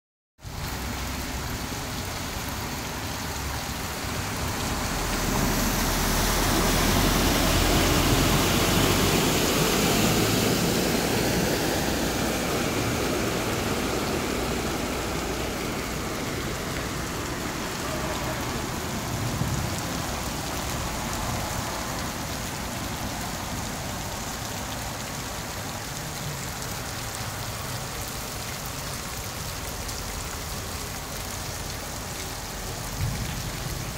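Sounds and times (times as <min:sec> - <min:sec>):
heavy rain falling: 0:00.4 - 0:33.9.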